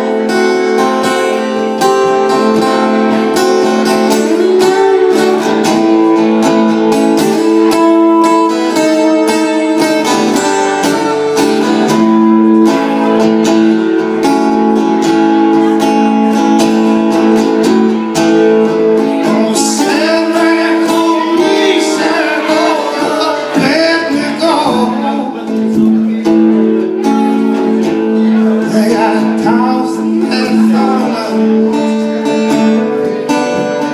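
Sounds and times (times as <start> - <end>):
person singing: 0.0 - 13.0, 17.9 - 33.9
acoustic guitar strumming: 0.0 - 33.9.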